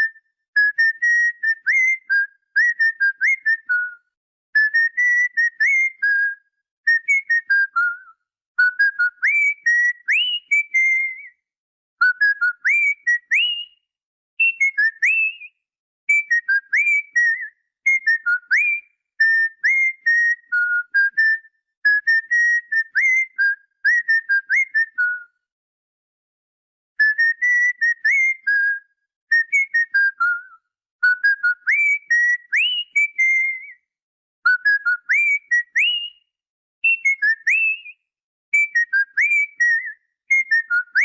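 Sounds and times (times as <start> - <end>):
cockatiel whistling a tune: 0.0 - 25.4, 27.0 - 41.0.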